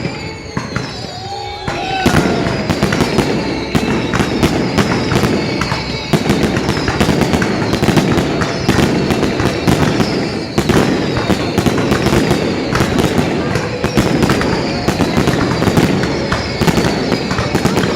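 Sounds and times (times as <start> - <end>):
faint falling whistles: 0.0 - 17.9
fireworks bangs and crackling: 0.0 - 17.9.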